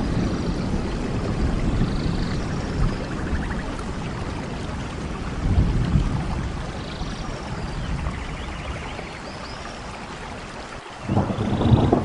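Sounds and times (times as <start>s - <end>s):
low rumble of thunder: 0.0s - 10.2s, 11.0s - 12.0s
steady rain: 0.0s - 12.0s.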